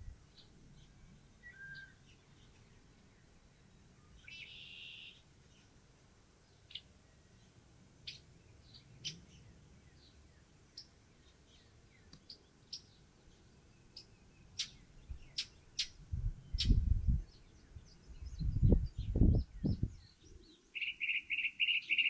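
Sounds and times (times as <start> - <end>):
mockingbird chirping: 0.3 - 5.7, 6.5 - 22.0.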